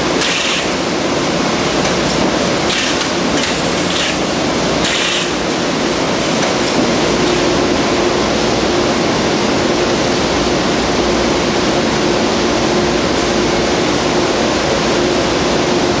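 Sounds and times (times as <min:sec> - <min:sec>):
constant machine hum: 0:00.0 - 0:16.0
machinery roar: 0:00.0 - 0:16.0.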